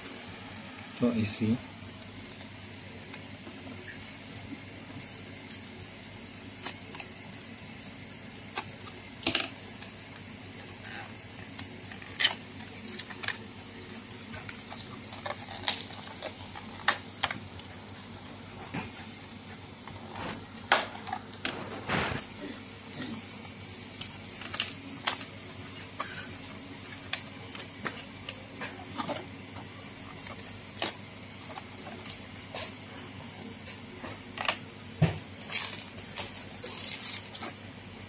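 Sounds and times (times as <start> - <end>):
low background hum: 0.0 - 38.0.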